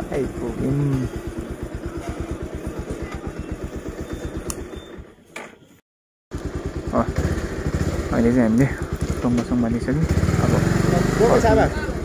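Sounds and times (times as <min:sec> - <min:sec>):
motorcycle engine idling: 0:00.0 - 0:05.3, 0:06.3 - 0:12.0.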